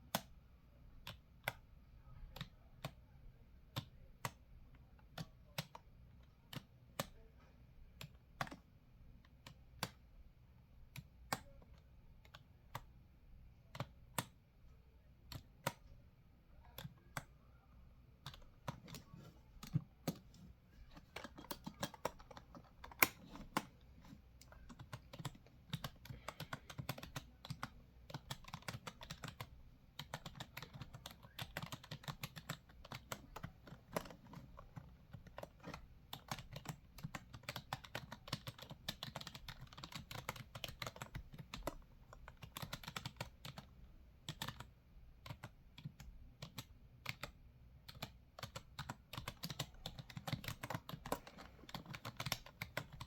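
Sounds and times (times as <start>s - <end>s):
computer keyboard typing: 1.0s - 3.0s, 3.7s - 7.3s, 8.0s - 10.0s, 10.9s - 12.9s, 13.7s - 14.4s, 15.3s - 15.9s, 16.7s - 17.4s, 18.2s - 53.0s.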